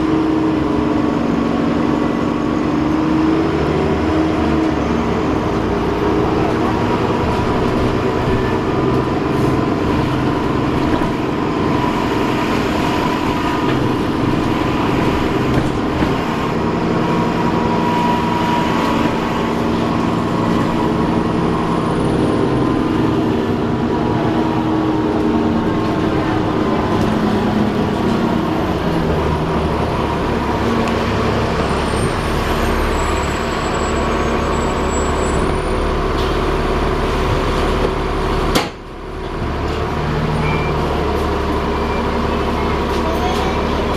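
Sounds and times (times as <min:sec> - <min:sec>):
bus engine drone: 0:00.0 - 0:43.9.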